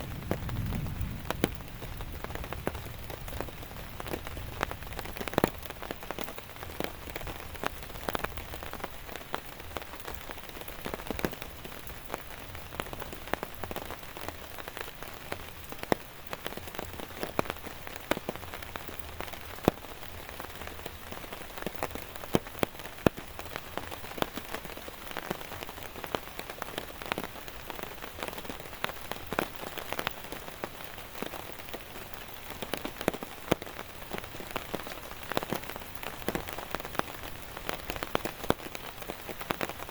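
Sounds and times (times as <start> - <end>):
raindrops tapping close by: 0.0 - 39.9
steady rain: 0.0 - 39.9.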